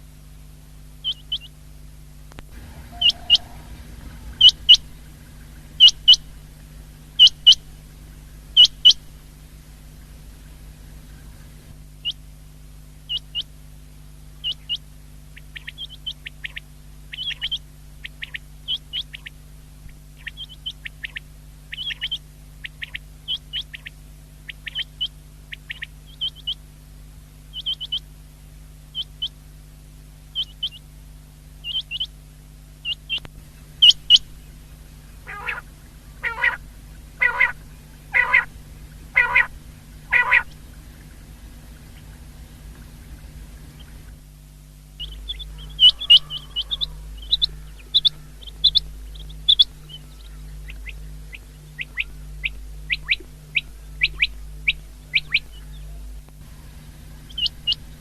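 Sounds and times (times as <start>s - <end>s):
steady low hum: 0.0s - 58.0s
quail calling: 1.0s - 1.5s, 2.5s - 12.2s, 13.1s - 13.5s, 14.4s - 14.8s, 15.4s - 19.3s, 20.2s - 26.6s, 27.5s - 28.1s, 29.0s - 29.4s, 30.4s - 30.8s, 31.6s - 32.1s, 32.8s - 44.2s, 45.0s - 58.0s.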